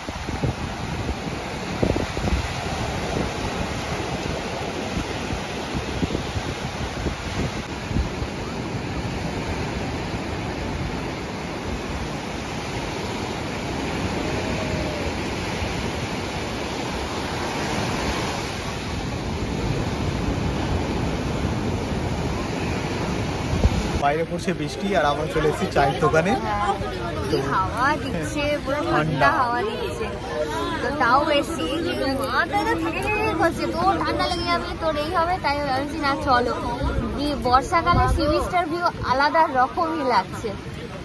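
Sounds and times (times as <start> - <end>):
surf breaking on beach: 0.0 - 41.0
wind buffeting microphone: 0.0 - 41.0.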